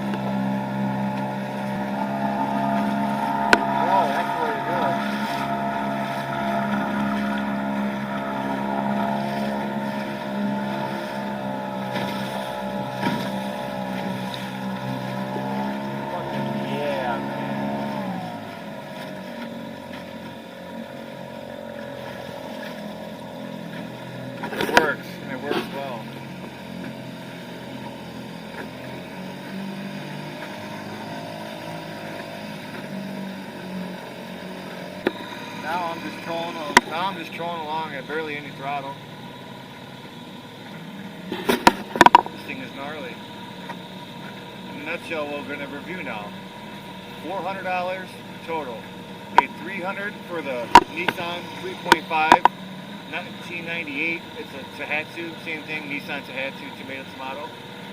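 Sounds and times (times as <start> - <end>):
two-stroke outboard motor running: 0.0 - 57.9.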